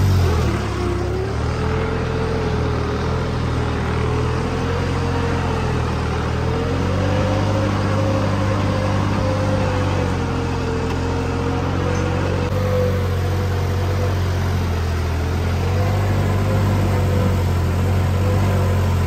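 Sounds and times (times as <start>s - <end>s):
engine whine: 0.0s - 19.0s
tractor diesel engine under load: 0.0s - 19.0s.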